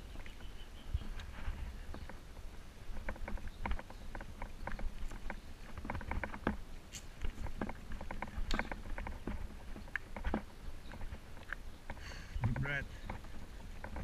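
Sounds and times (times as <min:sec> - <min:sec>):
wind: 0:00.0 - 0:14.0
bike clicks and rattles: 0:01.0 - 0:14.0.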